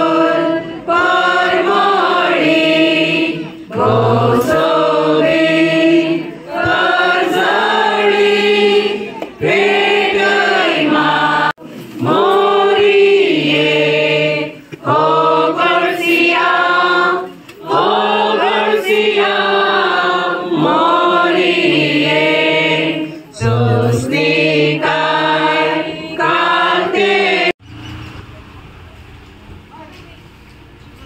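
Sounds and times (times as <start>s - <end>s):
voices singing a slow hymn: 0.0s - 27.6s.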